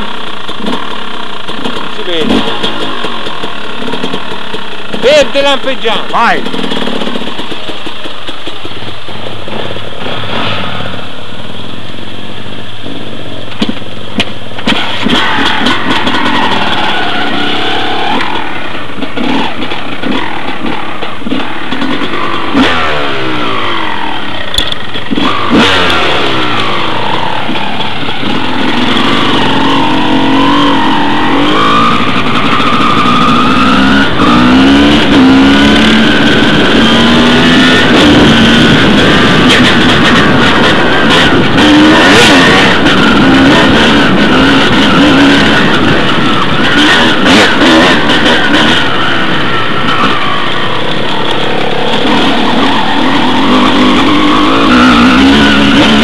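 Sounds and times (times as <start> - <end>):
dirt bike engine revving: 0.0 - 13.8, 14.5 - 56.0.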